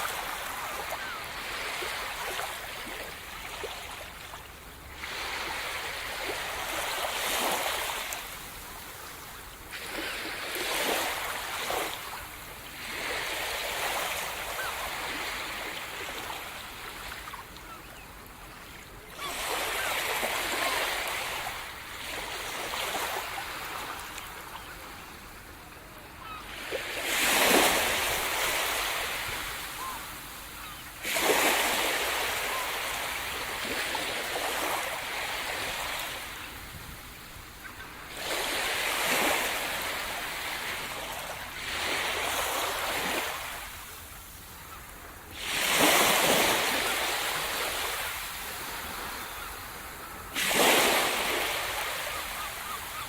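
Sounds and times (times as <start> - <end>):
waves breaking on the shore: 0.0 - 53.0.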